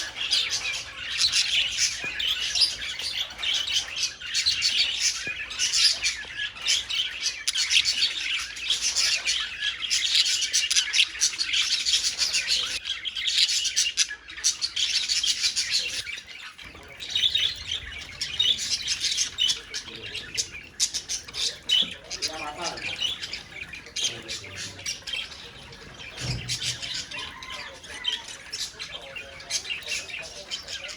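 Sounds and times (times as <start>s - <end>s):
budgerigars chattering and chirping: 0.0s - 30.9s.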